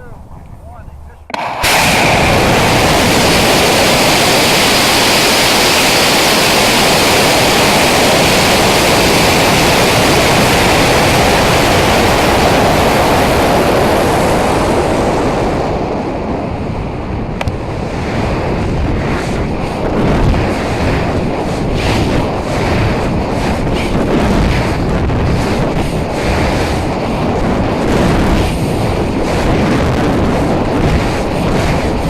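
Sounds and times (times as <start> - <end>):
rocket motor roar: 1.0 - 32.0.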